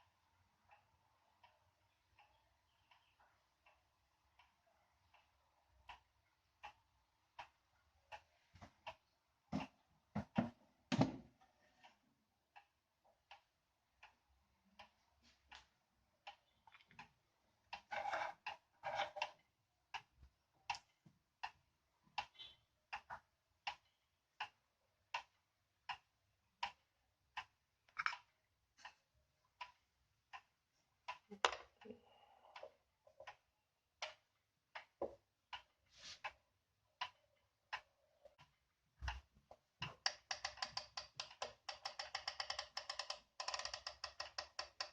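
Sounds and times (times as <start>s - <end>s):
wall clock ticking: 0.0s - 44.9s.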